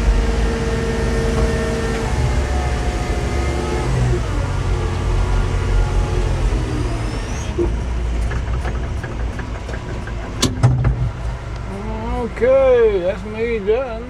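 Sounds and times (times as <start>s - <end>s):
machine engine running: 0.0s - 14.0s.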